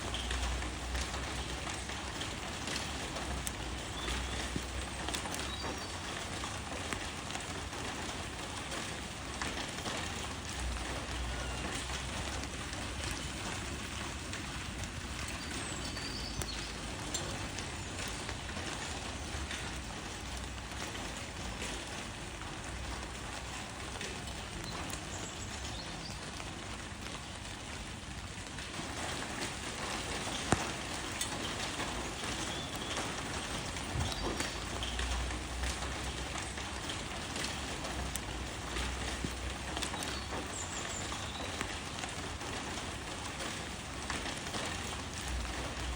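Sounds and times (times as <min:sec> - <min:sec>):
rain falling on leaves: 0:00.0 - 0:45.9.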